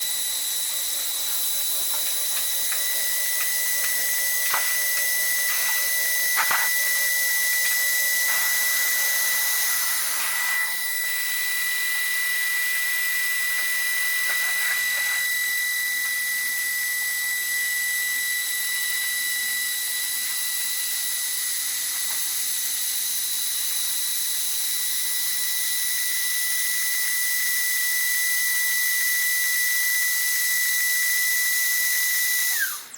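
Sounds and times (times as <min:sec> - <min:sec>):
lathe spindle whining: 0:00.0 - 0:32.9.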